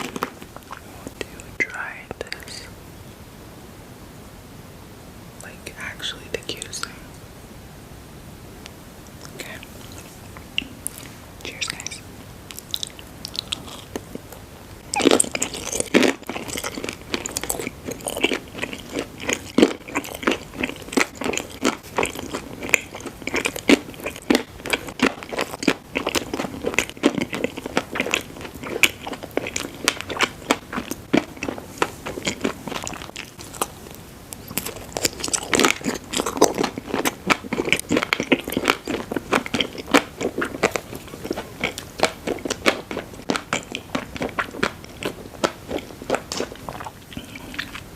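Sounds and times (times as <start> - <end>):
crunchy food chewing: 0.0 - 2.7, 9.1 - 47.9.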